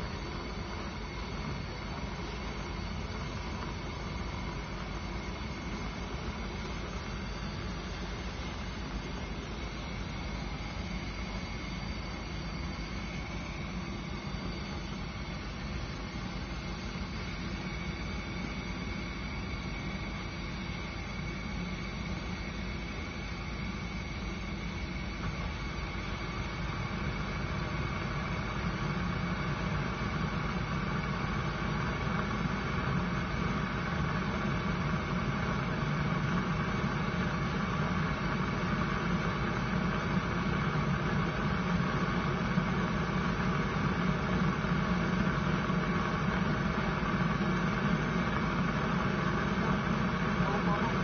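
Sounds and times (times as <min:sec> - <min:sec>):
gas heater burning with hiss: 0:00.0 - 0:51.0.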